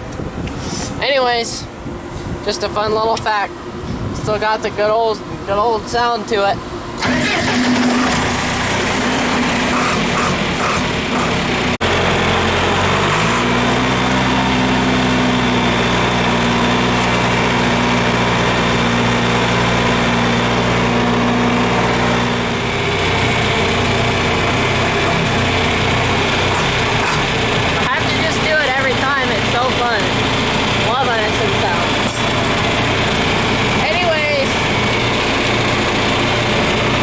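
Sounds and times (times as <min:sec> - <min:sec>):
tractor engine running: 0:06.8 - 0:37.0.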